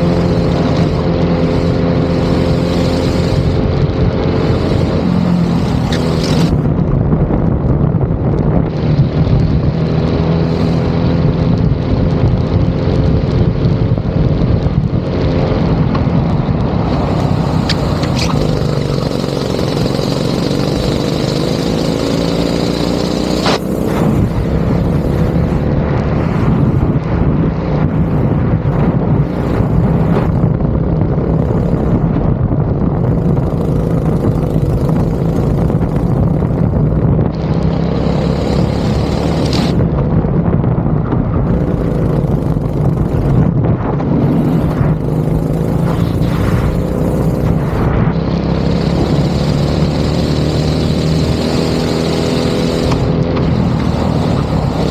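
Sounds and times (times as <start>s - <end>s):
go-kart engine running hard: 0.0s - 54.9s.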